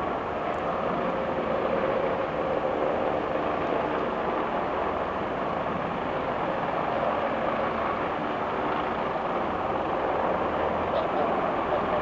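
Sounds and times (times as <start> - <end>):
aircraft engines running: 0.0 - 12.0.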